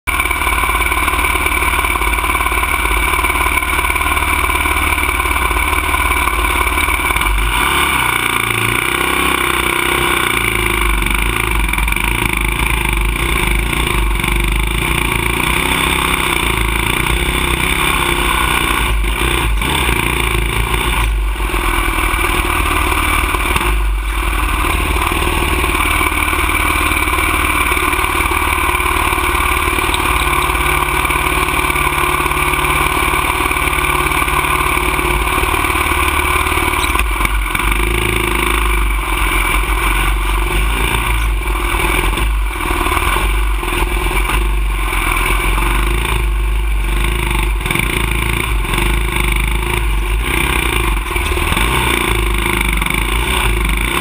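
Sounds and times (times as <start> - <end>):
dirt bike engine idling: 0.0 - 54.0.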